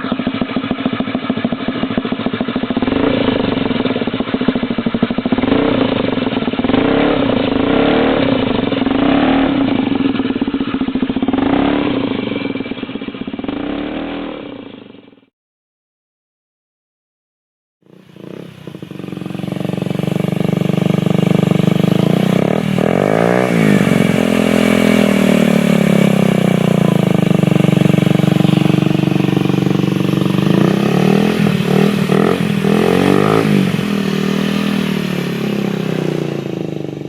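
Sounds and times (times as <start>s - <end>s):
scooter engine revving: 0.0s - 15.3s, 17.8s - 37.0s.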